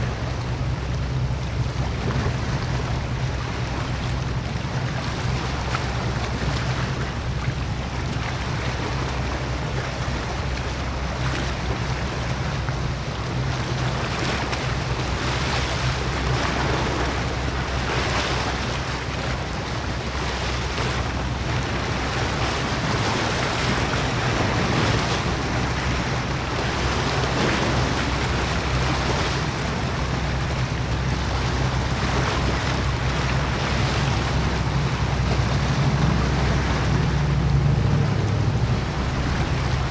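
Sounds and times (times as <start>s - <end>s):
choppy water: 0.0s - 39.9s
ship engines droning: 0.0s - 39.9s
wind on microphone: 0.0s - 39.9s.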